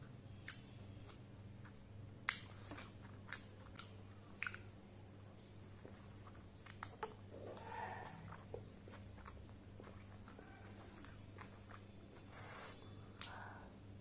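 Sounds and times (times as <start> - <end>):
chewing soft food: 0.0 - 13.6.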